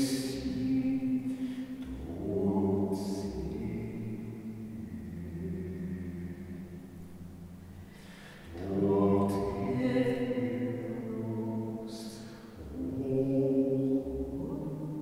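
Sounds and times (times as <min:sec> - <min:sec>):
man singing: 0:00.0 - 0:06.8, 0:08.3 - 0:15.0.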